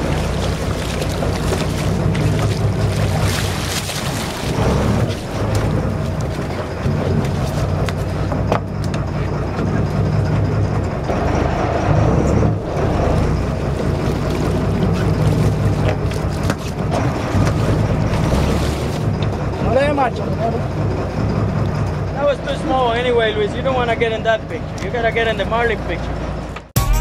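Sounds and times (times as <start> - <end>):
water splashing against hull: 0.0 - 25.8
boat engine humming: 0.0 - 26.7.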